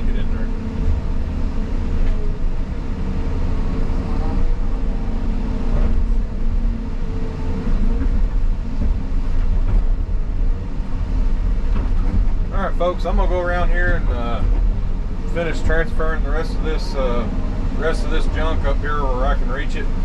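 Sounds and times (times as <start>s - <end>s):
excavator engine and hydraulics: 0.0s - 20.0s.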